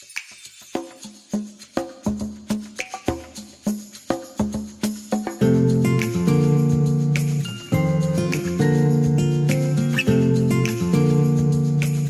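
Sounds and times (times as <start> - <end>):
light percussive music: 0.0 - 12.0.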